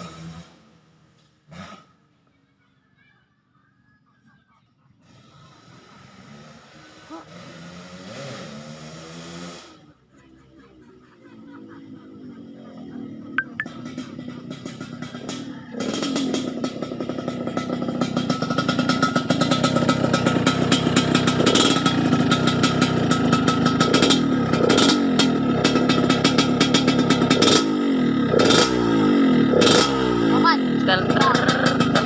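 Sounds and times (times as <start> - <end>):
motorcycle engine revving: 0.0 - 2.2, 5.1 - 32.0.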